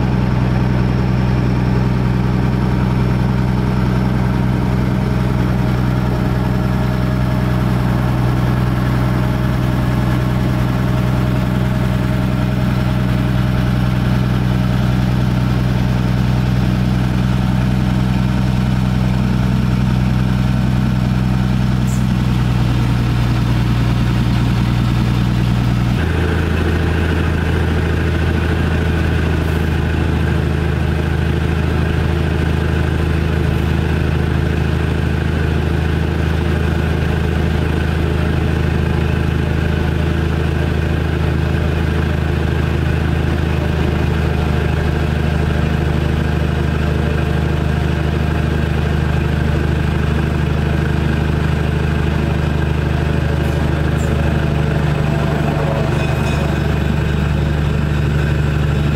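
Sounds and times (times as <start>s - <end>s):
diesel locomotive engine droning: 0.0s - 58.9s.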